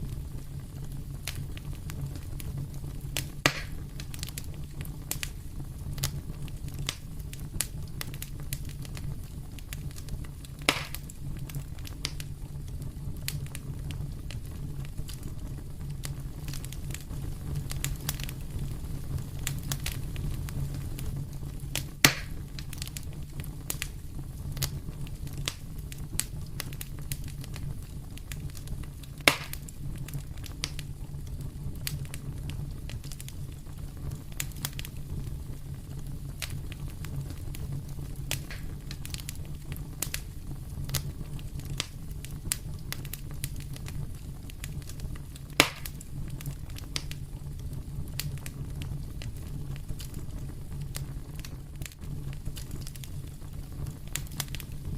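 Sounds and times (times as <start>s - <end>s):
fire crackling in fireplace: 0.0s - 54.9s
sharp pops of fire: 0.0s - 54.9s.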